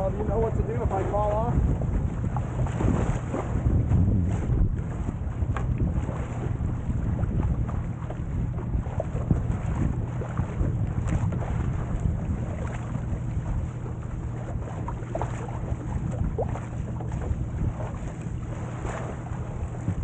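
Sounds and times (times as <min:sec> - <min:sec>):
water splashing along hull: 0:00.0 - 0:20.0
wind buffeting microphone: 0:00.0 - 0:20.0.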